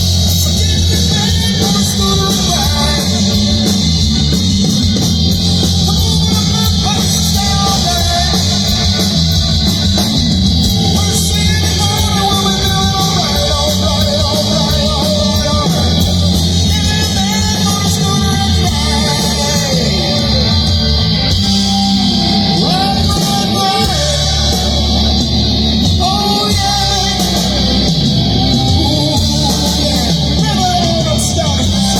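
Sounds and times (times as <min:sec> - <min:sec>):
person singing: 0:00.0 - 0:04.3, 0:05.0 - 0:31.9
electric guitar: 0:00.0 - 0:31.9
loud rock music: 0:00.0 - 0:31.9.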